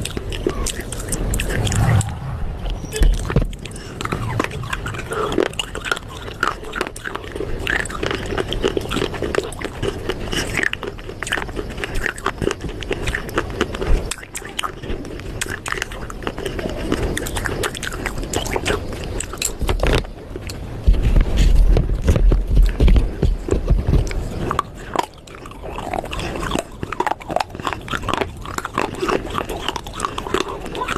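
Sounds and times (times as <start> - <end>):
crunching brittle clay pieces: 3.2 - 30.9.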